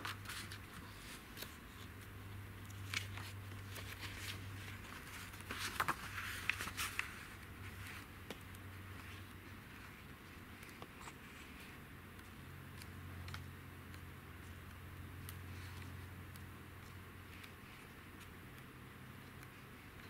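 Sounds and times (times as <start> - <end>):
paper pages rustling and flapping: 0.0 - 18.4.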